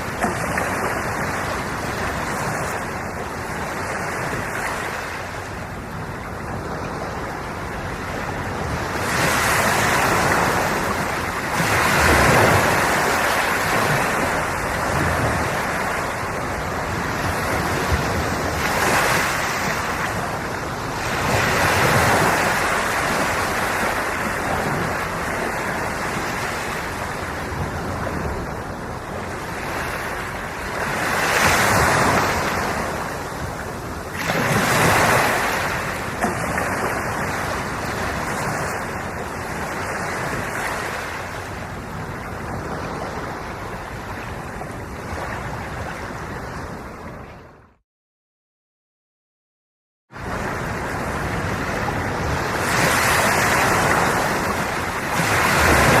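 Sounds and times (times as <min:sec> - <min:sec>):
ocean waves breaking on shore: 0:00.0 - 0:47.8, 0:50.2 - 0:56.0.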